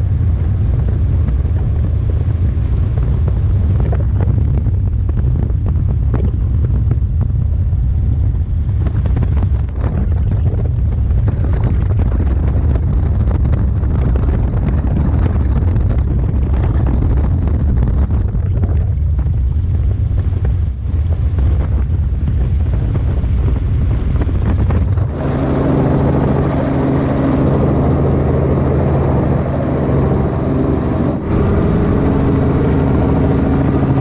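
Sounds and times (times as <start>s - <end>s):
helicopter rotor and engine drone: 0.0s - 18.6s, 21.4s - 34.0s
wind buffeting microphone: 0.0s - 34.0s.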